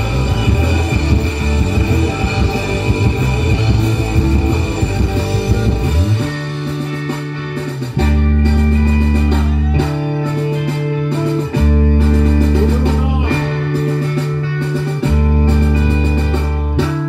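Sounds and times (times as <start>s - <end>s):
bass guitar low notes: 0.0s - 17.0s
drum kit: 0.0s - 17.0s
electric guitar: 0.0s - 17.0s.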